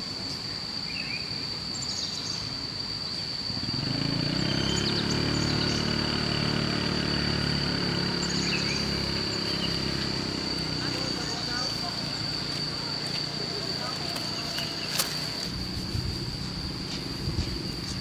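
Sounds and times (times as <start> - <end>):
high insect drone: 0.0 - 18.0
small motorbike engine: 3.4 - 18.0.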